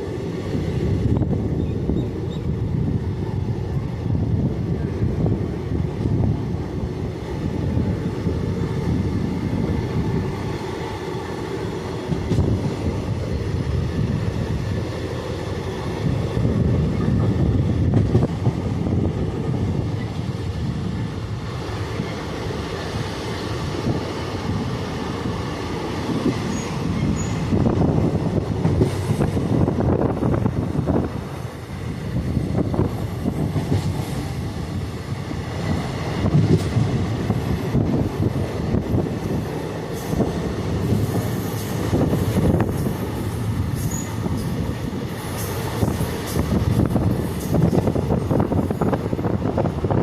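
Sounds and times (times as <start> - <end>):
train wheels rumbling on track: 0.0 - 50.0.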